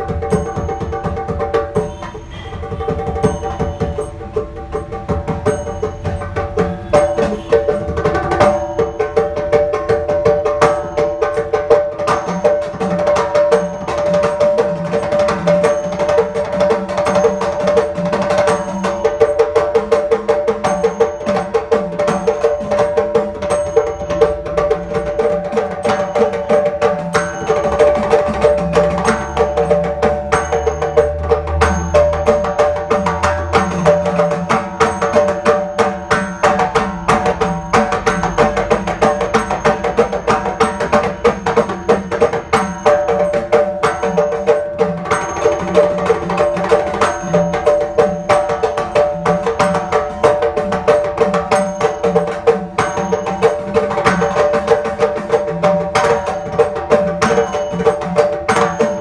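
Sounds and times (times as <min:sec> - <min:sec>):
copper pot drums struck with palms: 0:00.0 - 0:59.0
hourglass drum wavering pitch: 0:00.0 - 0:59.0.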